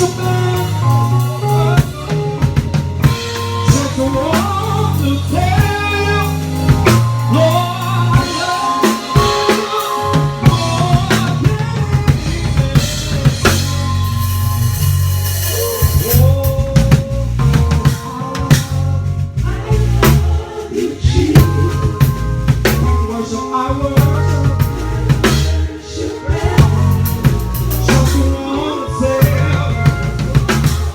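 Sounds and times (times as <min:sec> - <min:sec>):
drum kit: 0:00.0 - 0:30.9
electric bass: 0:00.0 - 0:30.9
keyboard chords: 0:00.0 - 0:30.9.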